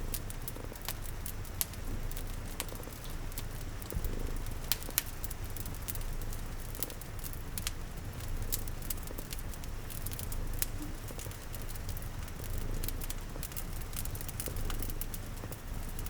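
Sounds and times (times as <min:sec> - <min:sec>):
cat purring: 0:00.0 - 0:16.0
soft rain: 0:00.0 - 0:16.0
wood fire crackling: 0:00.0 - 0:16.0.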